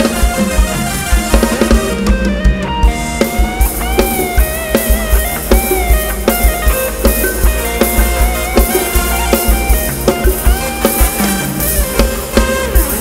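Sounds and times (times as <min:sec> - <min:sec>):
dance band playing through a pa: 0:00.0 - 0:13.0
fast kick drum beat: 0:00.0 - 0:13.0
gliding lead melody: 0:00.0 - 0:13.0.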